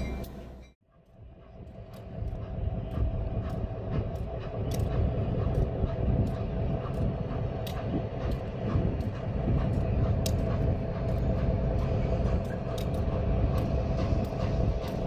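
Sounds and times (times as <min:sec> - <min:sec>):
steam locomotive rumble: 0:00.0 - 0:15.0.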